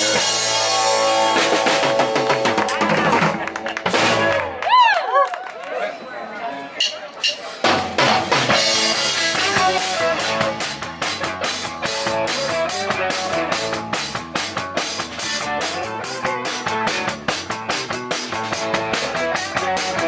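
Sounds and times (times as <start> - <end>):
drum kit beat: 0.0 - 4.6, 6.8 - 20.0
rock band playing: 0.0 - 4.8, 7.3 - 20.0.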